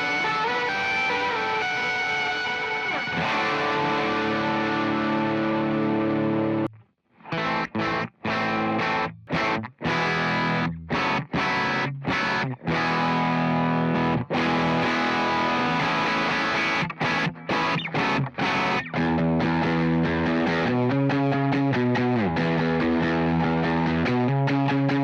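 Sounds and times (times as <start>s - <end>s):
distorted electric guitar chords: 0.0s - 25.0s.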